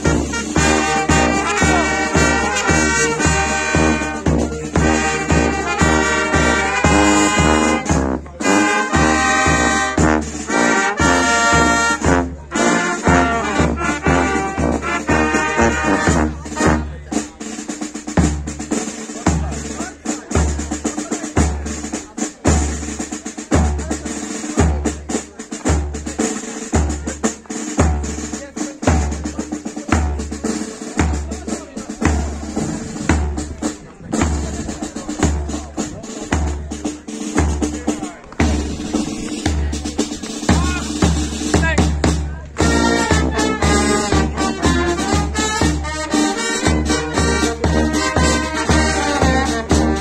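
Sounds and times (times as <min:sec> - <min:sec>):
bass drum beat: 0:00.0 - 0:50.0
brass band playing a march: 0:00.0 - 0:50.0
snare drum strokes and rolls: 0:00.0 - 0:50.0.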